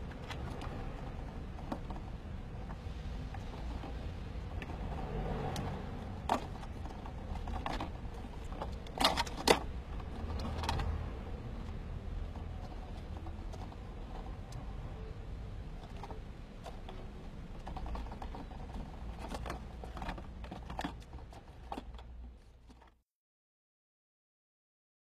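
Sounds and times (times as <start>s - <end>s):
mouse scratching on plastic: 0.0s - 23.0s.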